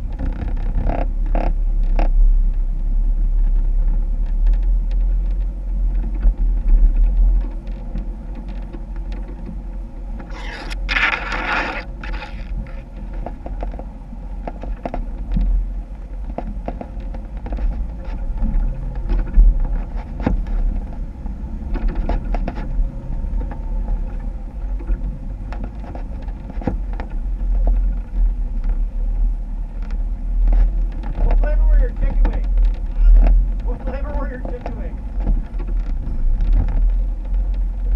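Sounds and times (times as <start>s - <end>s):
vehicle engine rumble: 0.0s - 37.9s
knocks and scrapes: 3.4s - 28.9s, 29.7s - 37.9s.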